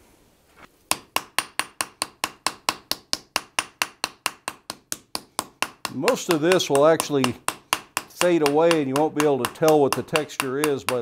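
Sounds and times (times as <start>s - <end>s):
hammer striking hot iron: 0.9s - 11.0s.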